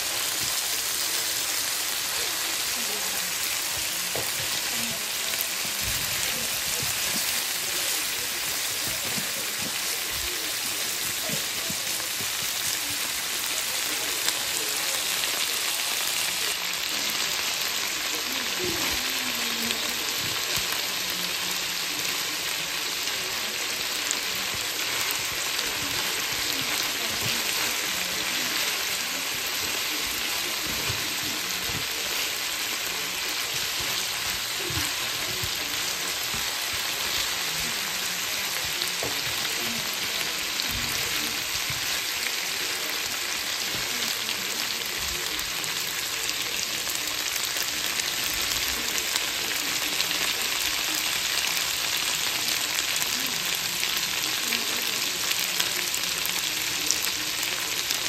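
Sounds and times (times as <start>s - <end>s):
potatoes sizzling in oil: 0.0s - 58.0s.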